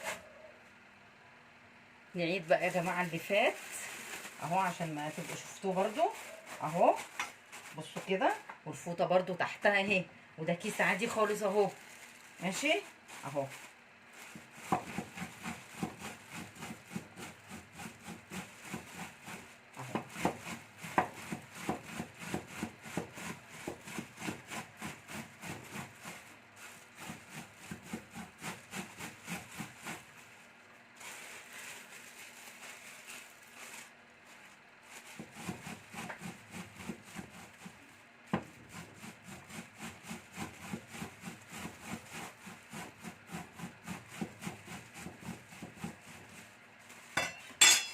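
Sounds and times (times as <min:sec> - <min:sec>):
rocking blade chopping leaves: 0:02.4 - 0:08.5, 0:10.6 - 0:47.9.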